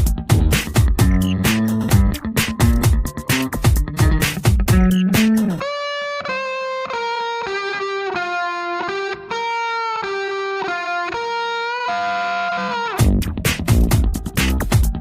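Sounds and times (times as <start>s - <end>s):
electric guitar melody: 0.0s - 15.0s.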